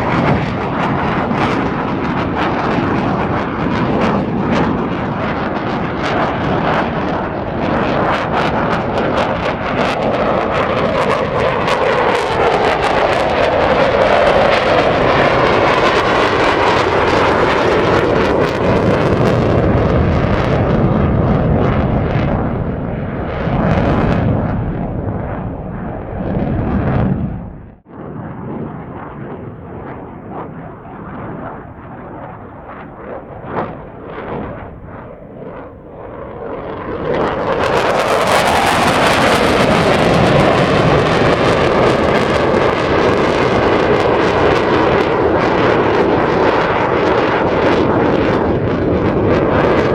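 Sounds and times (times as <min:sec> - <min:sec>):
duller jet sound: 0:00.0 - 0:49.9
jet engine roaring past: 0:00.0 - 0:49.9.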